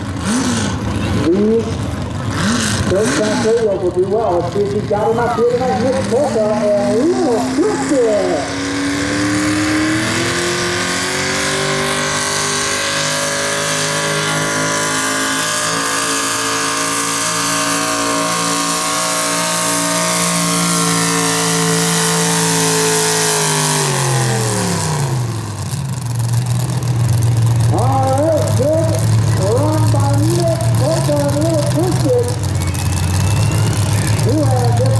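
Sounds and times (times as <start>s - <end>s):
engine running under load: 0.0s - 34.9s.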